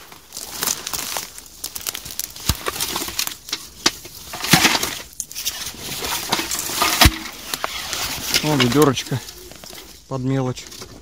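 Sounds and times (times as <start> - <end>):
dry undergrowth rustling: 0.0 - 11.0.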